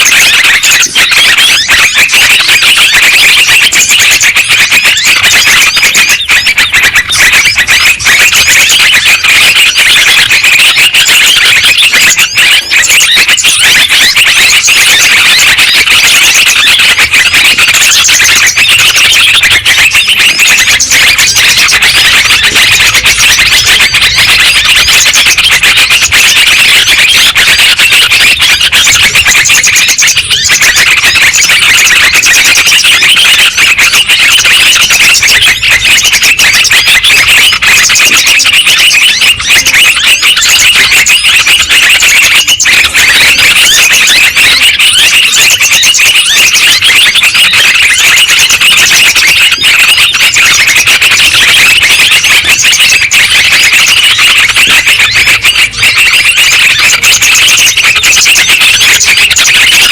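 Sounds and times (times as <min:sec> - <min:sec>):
birds chattering: 0:00.0 - 0:59.9.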